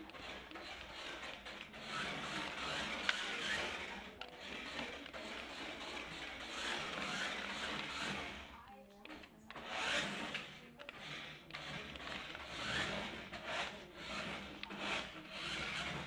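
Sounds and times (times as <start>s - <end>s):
toy car motor whirring: 0.0s - 16.0s.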